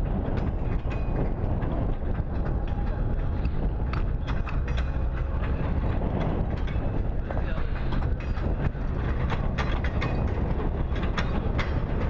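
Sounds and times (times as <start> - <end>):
train clicks and clanks: 0.0 - 12.0
train wheels rumbling on rail: 0.0 - 12.0.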